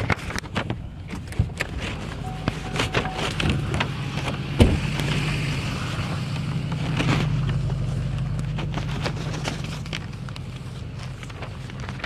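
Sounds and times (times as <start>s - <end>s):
truck engine idling: 0.8s - 12.0s.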